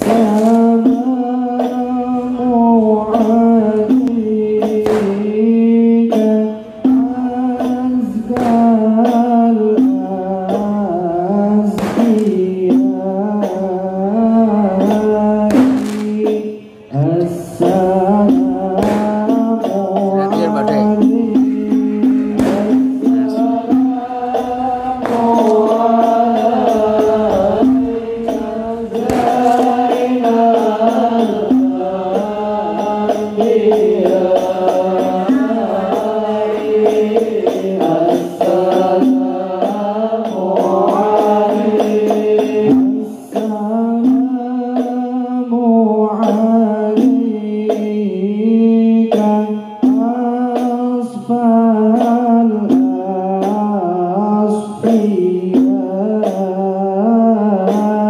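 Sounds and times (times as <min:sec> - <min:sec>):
sharp percussive hits: 0:00.0 - 0:45.2, 0:46.2 - 0:56.7, 0:57.5 - 0:58.0
men chanting in unison: 0:00.0 - 0:58.0.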